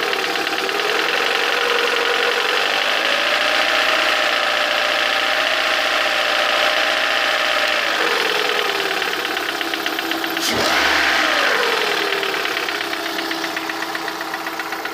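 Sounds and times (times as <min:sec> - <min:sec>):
car engine idling with knock: 0:00.0 - 0:14.9
engine revving: 0:00.0 - 0:14.9.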